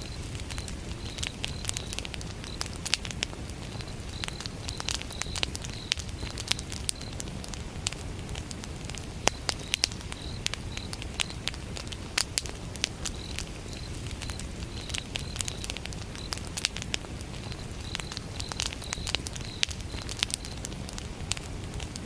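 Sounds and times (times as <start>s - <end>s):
crickets chirping: 0.0s - 22.0s
wood fire crackling: 0.0s - 22.0s.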